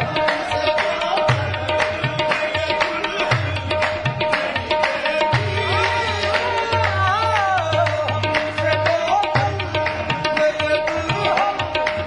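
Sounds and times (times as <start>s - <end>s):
tabla strokes: 0.0s - 12.0s.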